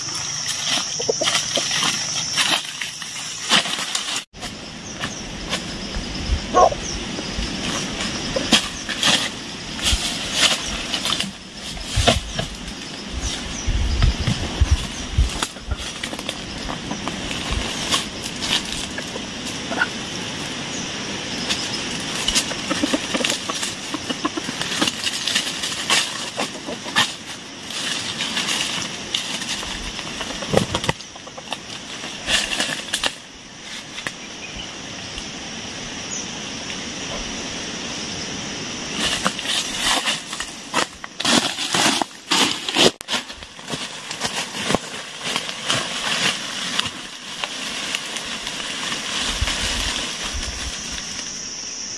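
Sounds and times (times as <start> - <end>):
leaves and twigs crackling: 0.0 - 51.9.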